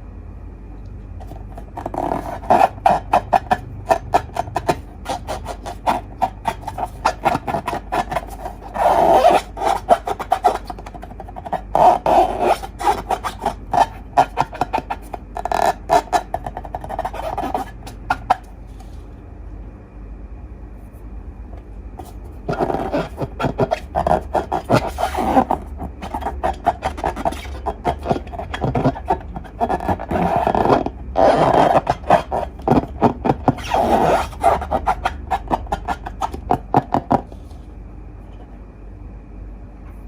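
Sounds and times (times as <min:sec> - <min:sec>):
rubber balloons squeaking: 0:01.2 - 0:18.6, 0:22.0 - 0:37.4.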